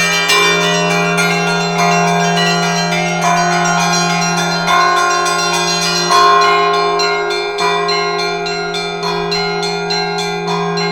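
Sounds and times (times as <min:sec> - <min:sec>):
deep hum of large bell: 0:00.0 - 0:10.9
heavier bell strikes: 0:00.0 - 0:10.9
small high bells ringing: 0:00.0 - 0:10.9.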